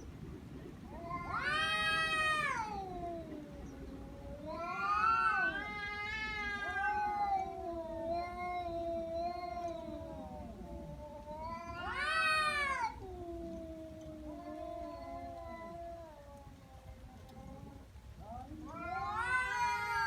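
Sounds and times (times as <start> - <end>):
angry cat yowling: 0.9 - 3.6, 4.3 - 16.6, 18.6 - 20.0.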